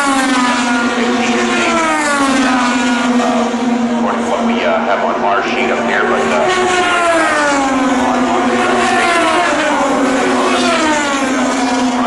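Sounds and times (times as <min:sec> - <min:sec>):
race car engines at full speed: 0:00.0 - 0:12.0.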